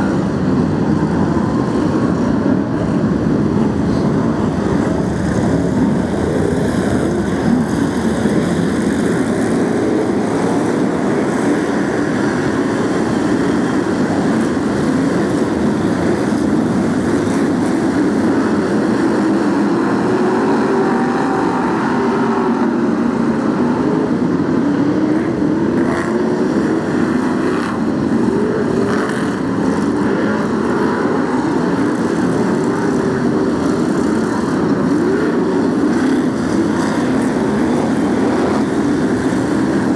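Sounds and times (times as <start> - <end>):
racing car engines: 0.0 - 39.9.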